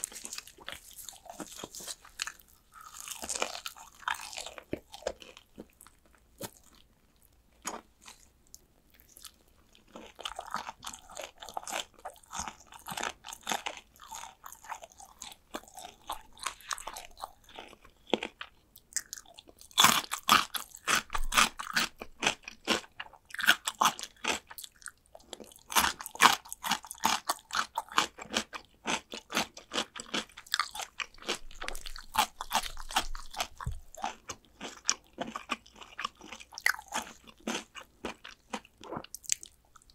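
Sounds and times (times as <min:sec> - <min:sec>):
chewing crunchy fried chicken: 0:00.0 - 0:39.9.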